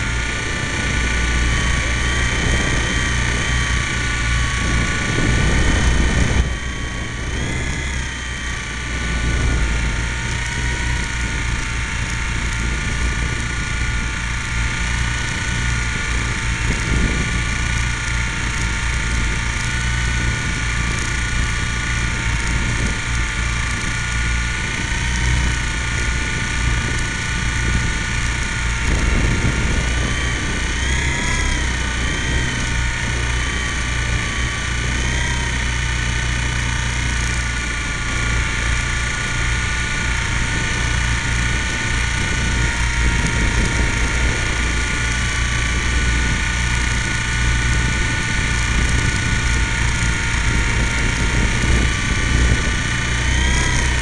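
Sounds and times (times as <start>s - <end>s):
model helicopter motor whine: 0.0s - 54.0s
rotor wash rumble: 0.0s - 54.0s.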